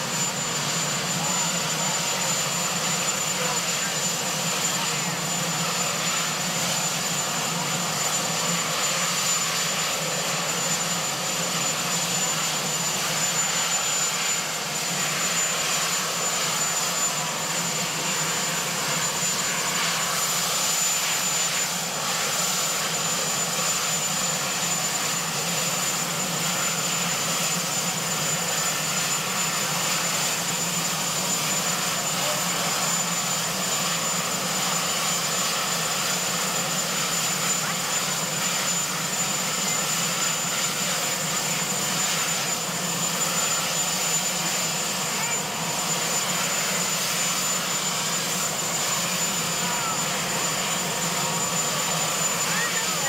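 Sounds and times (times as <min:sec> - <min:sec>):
helicopter turbine idling: 0:00.0 - 0:53.0.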